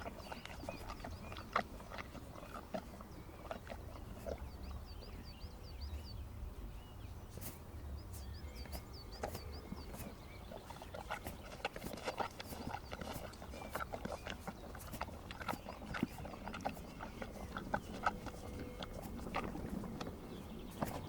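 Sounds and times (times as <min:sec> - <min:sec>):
horses licking salt block: 0:00.0 - 0:04.5, 0:08.2 - 0:21.0.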